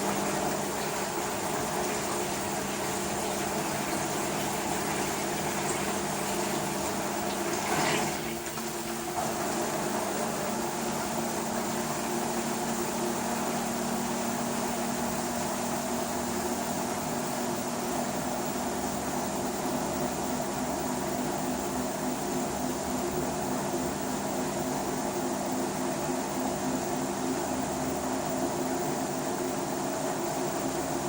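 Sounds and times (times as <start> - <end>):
washing machine humming: 0.0 - 31.0.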